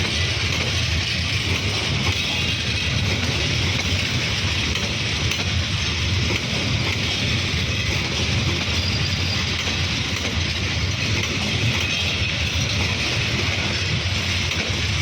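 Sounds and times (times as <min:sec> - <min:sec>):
hiss of wheels on rails: 0:00.0 - 0:15.0
passenger train running: 0:00.0 - 0:15.0.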